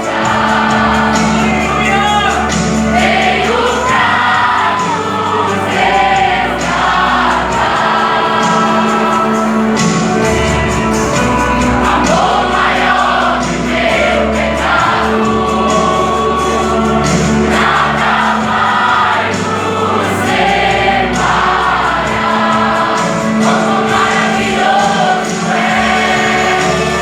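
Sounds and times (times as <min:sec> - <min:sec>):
band playing: 0:00.0 - 0:27.0
voices singing with vibrato: 0:00.0 - 0:27.0.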